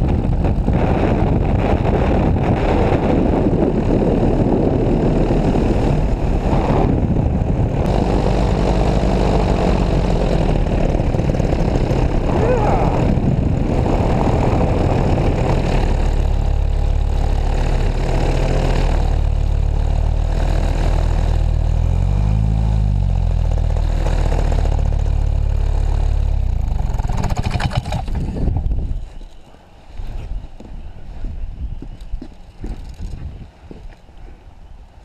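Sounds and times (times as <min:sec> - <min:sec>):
paramotor engine and propeller: 0:00.0 - 0:35.0
wind rushing over microphone: 0:00.0 - 0:35.0.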